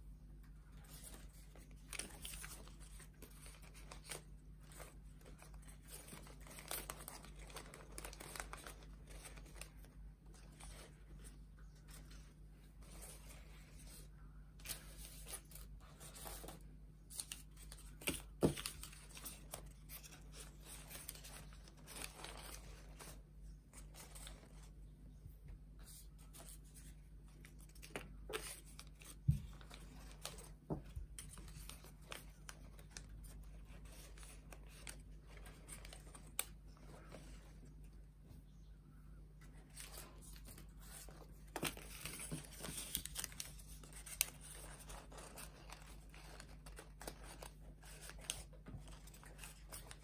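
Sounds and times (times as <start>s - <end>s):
paper rustling and crinkling: 0.6s - 24.9s, 25.8s - 37.9s, 39.3s - 50.0s.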